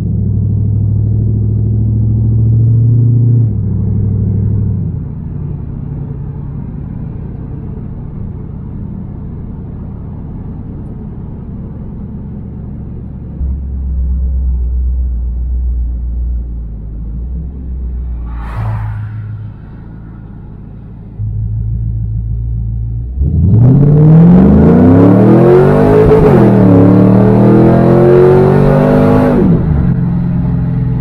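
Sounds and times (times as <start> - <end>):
car engine low drone: 0.0 - 31.0
road noise inside car: 0.0 - 31.0.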